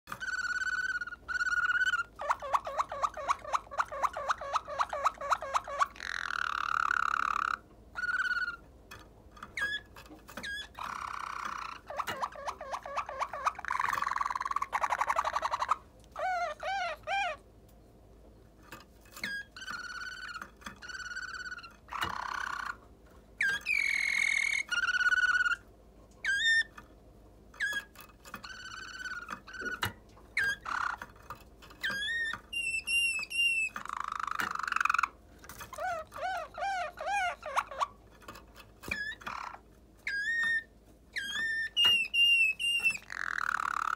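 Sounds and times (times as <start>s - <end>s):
canary singing trills: 0.1s - 8.8s, 9.4s - 17.5s, 19.1s - 26.9s, 27.5s - 43.9s.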